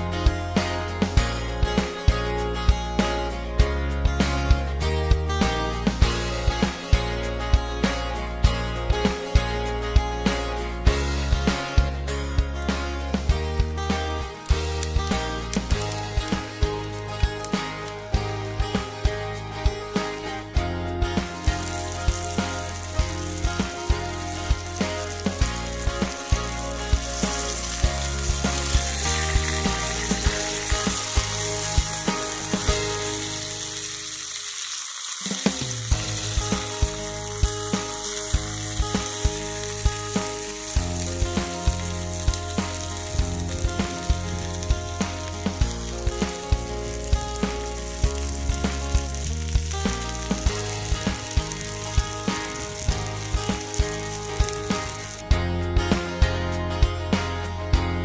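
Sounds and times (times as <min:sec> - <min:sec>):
background music with beat: 0:00.0 - 0:58.0
meat sizzling in a skillet: 0:00.2 - 0:03.3, 0:04.2 - 0:56.3.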